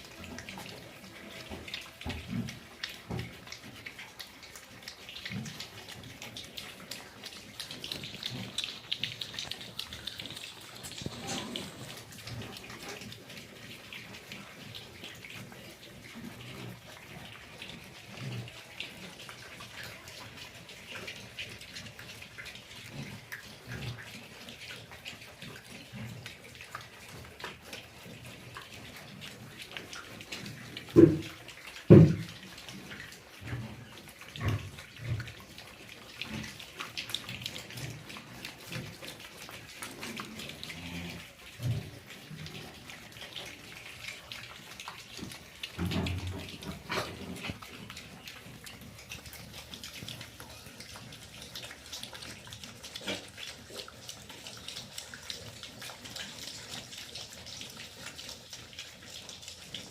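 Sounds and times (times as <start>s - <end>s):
pigs grunting: 5.2s - 59.1s.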